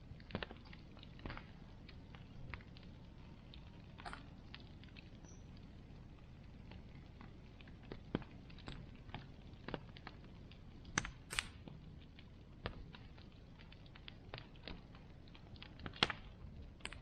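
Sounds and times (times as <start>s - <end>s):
burning wood snapping and popping: 0.0s - 17.0s
low rumble of flames: 0.0s - 17.0s.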